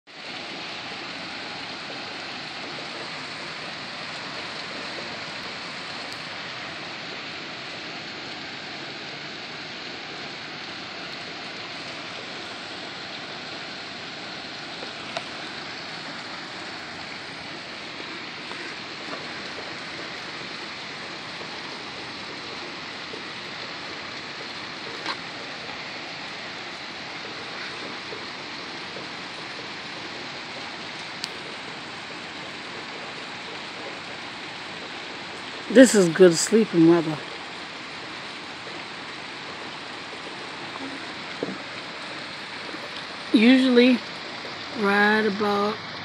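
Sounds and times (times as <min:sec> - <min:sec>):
heavy rain falling: 0:00.1 - 0:46.0.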